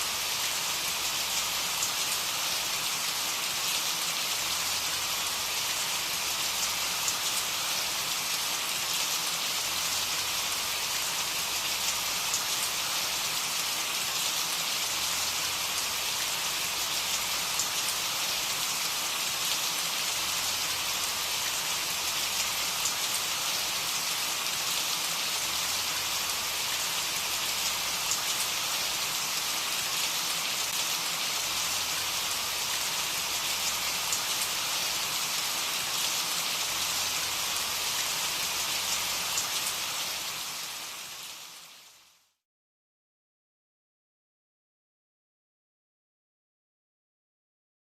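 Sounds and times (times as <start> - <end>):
steady rain falling: 0.0 - 42.2
raindrops pattering on a surface: 0.1 - 42.0.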